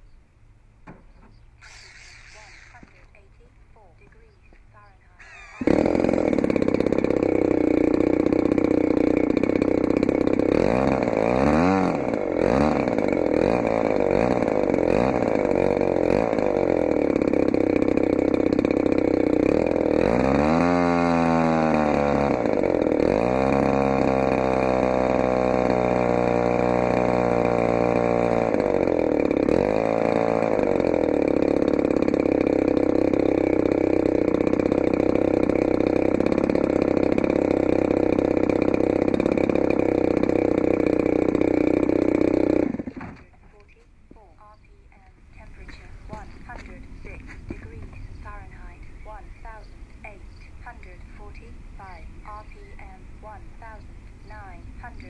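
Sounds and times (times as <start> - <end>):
two-stroke engine with propeller: 0.9 - 55.0.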